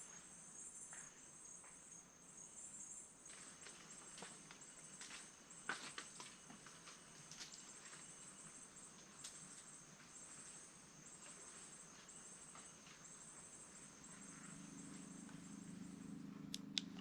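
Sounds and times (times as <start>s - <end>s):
night insects trilling: 2.2s - 16.3s.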